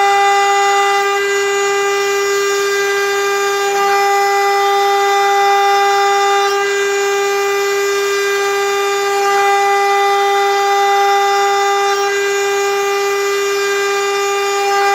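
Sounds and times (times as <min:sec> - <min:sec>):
router spindle high-pitched whine: 0:00.0 - 0:14.9.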